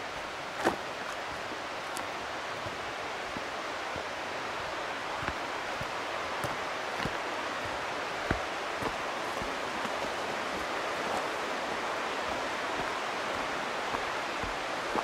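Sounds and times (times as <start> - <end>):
footsteps on dirt trail: 0.0 - 15.0
river rushing: 0.0 - 15.0.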